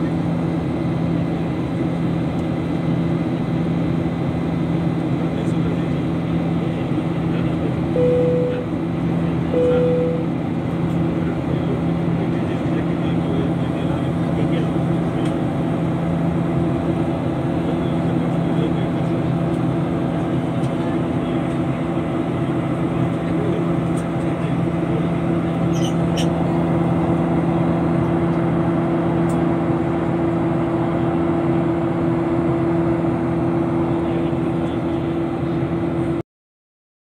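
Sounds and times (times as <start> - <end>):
jet engines droning in cabin: 0.0 - 36.2.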